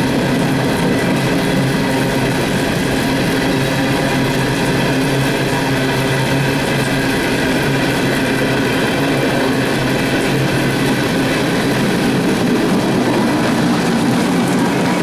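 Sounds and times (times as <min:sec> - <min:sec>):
constant drone: 0:00.0 - 0:15.0
train wheels rumbling on rails: 0:00.0 - 0:15.0.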